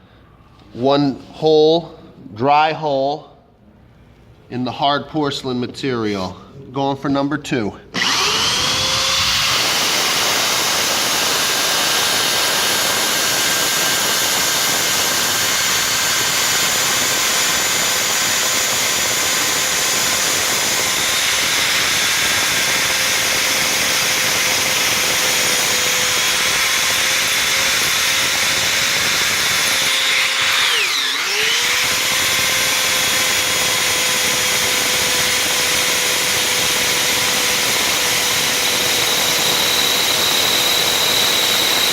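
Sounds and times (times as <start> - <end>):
electric drill grinding into tile: 8.0 - 41.9.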